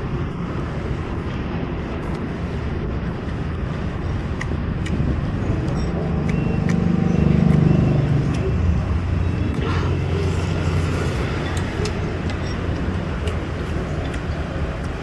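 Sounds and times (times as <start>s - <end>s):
engine passing close: 0.0s - 14.8s
street traffic rumble: 0.0s - 15.0s.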